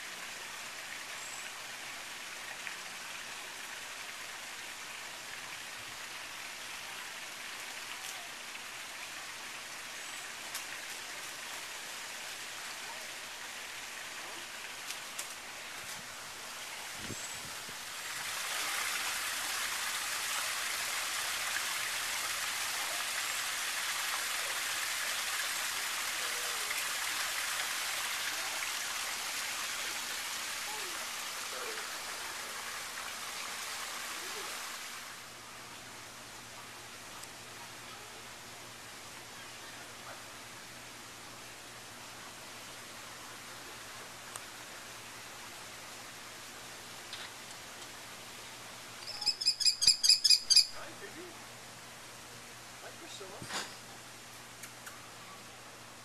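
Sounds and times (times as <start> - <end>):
rushing water hiss: 0.0 - 49.4, 50.6 - 56.0.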